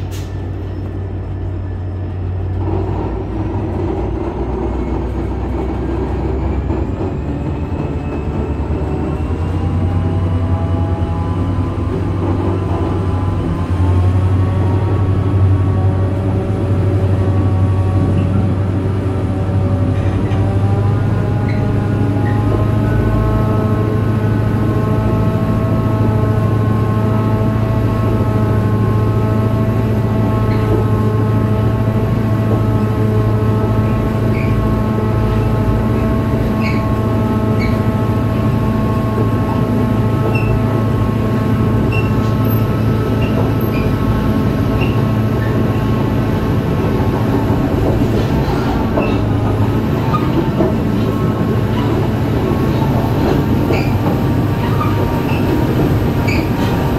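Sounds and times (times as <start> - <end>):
locomotive diesel engine humming: 0.0 - 56.9.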